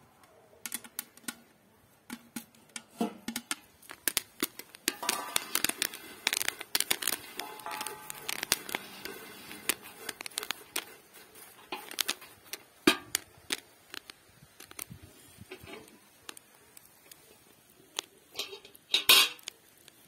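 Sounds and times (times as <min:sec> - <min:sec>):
spoon stirring popcorn in pot: 0:00.6 - 0:20.0.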